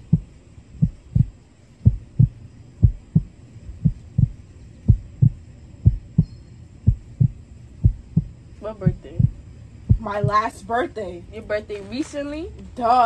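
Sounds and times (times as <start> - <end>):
heartbeat double thump: 0.0 - 10.5.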